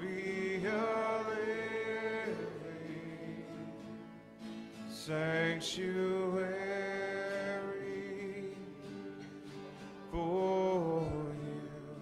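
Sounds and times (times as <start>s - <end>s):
men singing: 0.0s - 4.1s, 4.9s - 9.0s, 10.2s - 12.0s
acoustic guitars: 0.0s - 12.0s.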